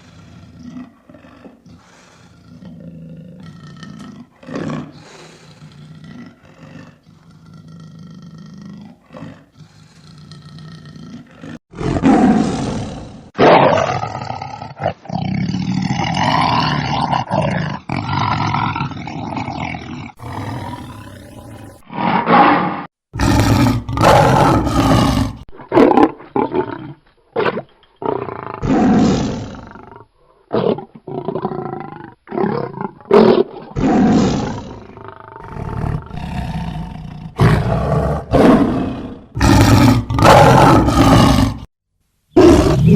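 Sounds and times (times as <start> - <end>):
large animal roaring and growling: 0.0 - 27.0, 28.0 - 41.7, 42.4 - 42.9.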